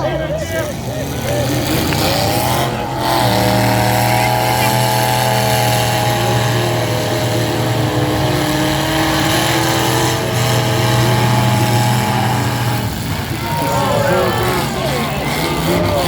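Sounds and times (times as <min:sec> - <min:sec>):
car engines droning: 0:00.0 - 0:16.0.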